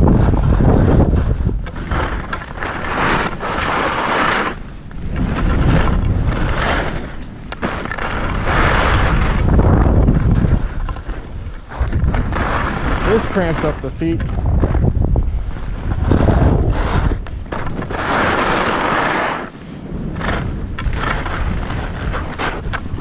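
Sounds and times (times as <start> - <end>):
skis scraping icy snow: 0.0 - 23.0
wind buffeting microphone: 0.0 - 23.0.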